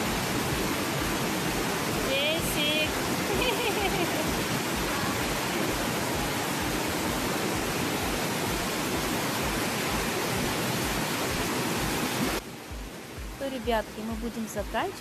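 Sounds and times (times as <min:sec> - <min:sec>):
churning water in a pool: 0:00.0 - 0:15.0.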